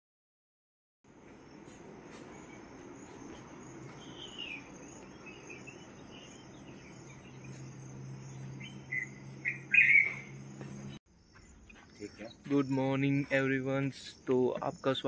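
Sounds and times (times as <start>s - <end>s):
birds calling: 1.1s - 15.0s
insects droning: 1.1s - 15.0s.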